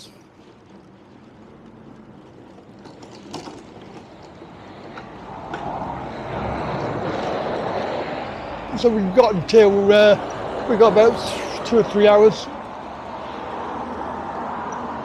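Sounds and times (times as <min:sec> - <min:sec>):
road traffic: 0:00.0 - 0:15.0
vehicle approaching: 0:00.0 - 0:15.0.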